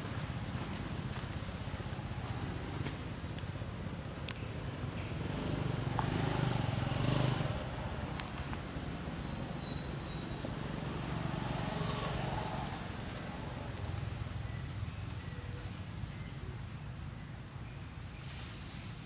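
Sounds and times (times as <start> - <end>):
motor vehicle humming: 0.0 - 17.2.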